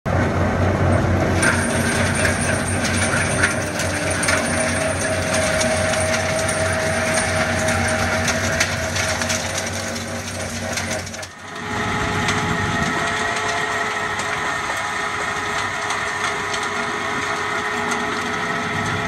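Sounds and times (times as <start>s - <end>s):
tractor engine under load: 0.1s - 19.0s
stone crusher rotor running: 0.7s - 19.0s.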